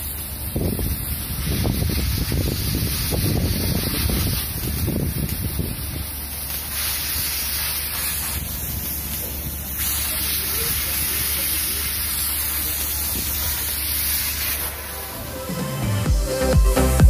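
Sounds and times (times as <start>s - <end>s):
welding torch hissing: 0.0s - 17.0s.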